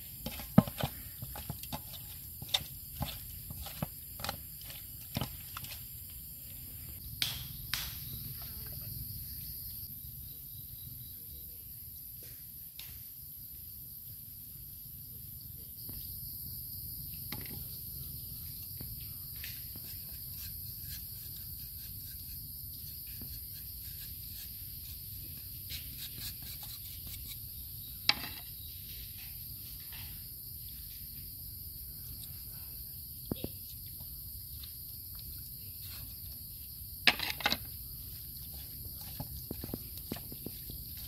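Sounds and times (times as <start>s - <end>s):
insects chorus: 0.0s - 41.0s.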